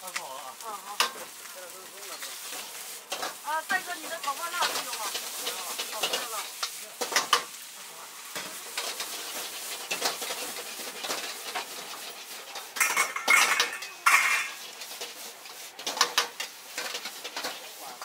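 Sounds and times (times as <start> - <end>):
rice sizzling: 0.0 - 18.0
metal ladle scraping a wok: 2.1 - 7.5, 8.4 - 18.0.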